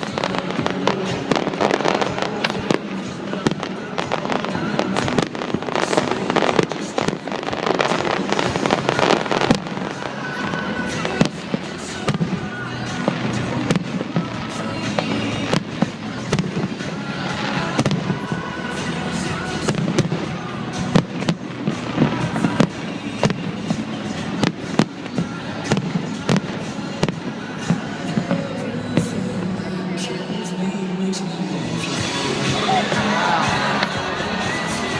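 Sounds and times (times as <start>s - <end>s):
fireworks bursting: 0.0s - 34.9s
music playing: 0.0s - 34.9s.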